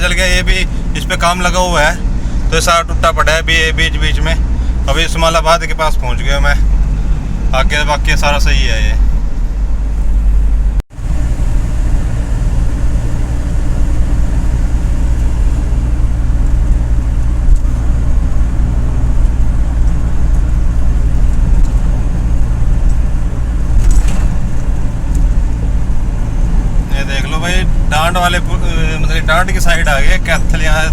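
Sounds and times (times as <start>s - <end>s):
engine and road noise in cabin: 0.0s - 30.9s.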